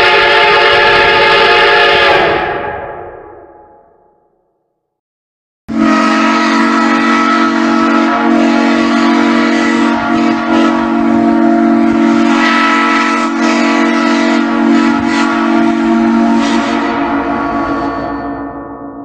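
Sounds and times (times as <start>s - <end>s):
steam train whistle: 0.0s - 3.3s, 5.7s - 19.0s.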